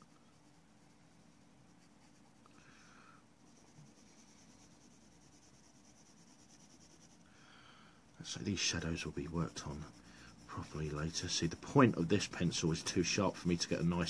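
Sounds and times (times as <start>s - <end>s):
pencil scratching on paper: 0.0s - 2.6s, 3.4s - 7.3s, 8.2s - 14.0s.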